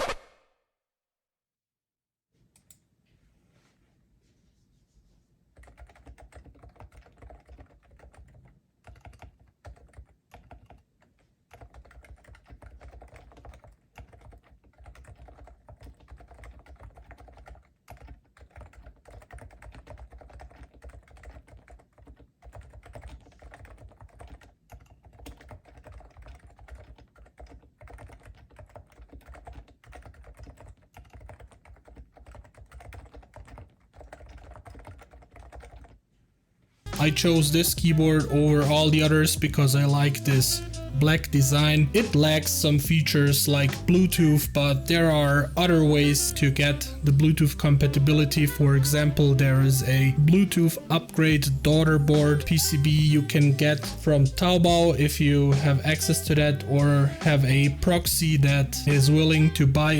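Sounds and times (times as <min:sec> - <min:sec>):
soft keyboard typing: 0:02.5 - 0:02.9, 0:05.5 - 0:36.0, 0:36.9 - 0:59.9.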